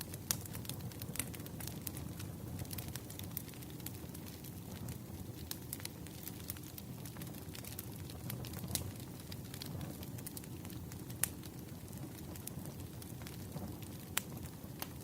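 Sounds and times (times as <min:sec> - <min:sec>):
fire crackling and popping: 0:00.0 - 0:15.0
firewood burning rumble: 0:00.0 - 0:15.0.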